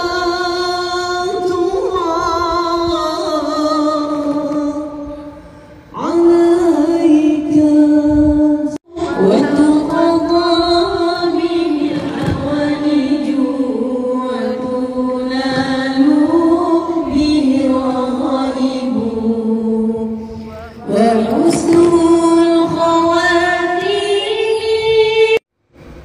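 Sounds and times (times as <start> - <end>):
woman singing a chant: 0.0 - 25.4.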